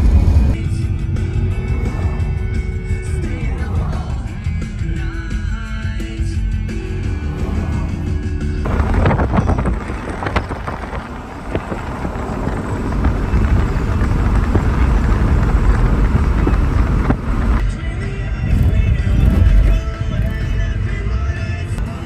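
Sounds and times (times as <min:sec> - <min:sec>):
car road and wind noise: 0:00.0 - 0:22.0.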